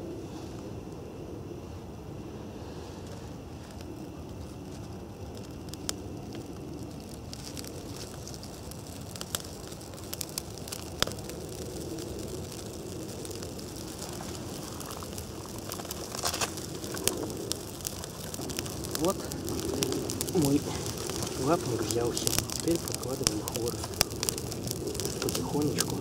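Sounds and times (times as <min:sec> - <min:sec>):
kindling fire crackling: 0:00.0 - 0:26.0
sharp fire pops: 0:03.0 - 0:26.0.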